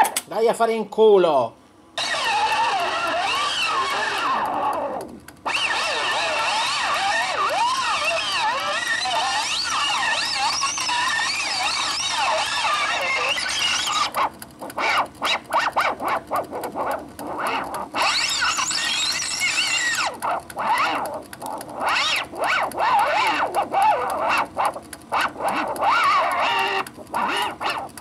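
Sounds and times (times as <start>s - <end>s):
warbling tape squeal: 2.0s - 28.0s.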